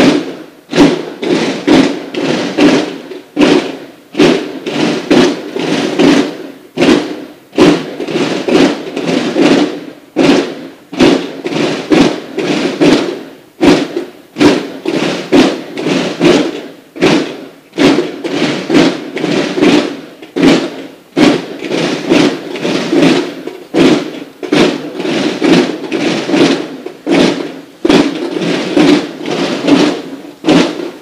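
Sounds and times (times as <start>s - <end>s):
marching drums: 0.0s - 31.0s.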